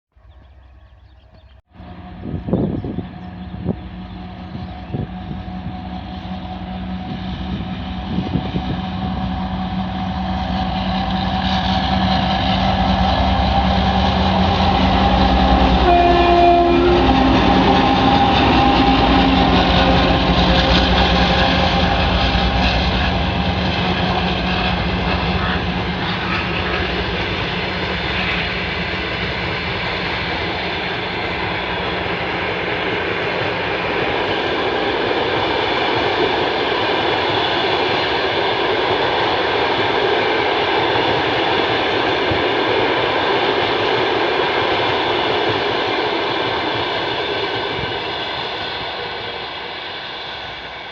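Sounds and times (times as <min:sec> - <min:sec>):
diesel locomotive engines droning: 0:00.1 - 0:50.9
train rumbling by: 0:00.1 - 0:50.9.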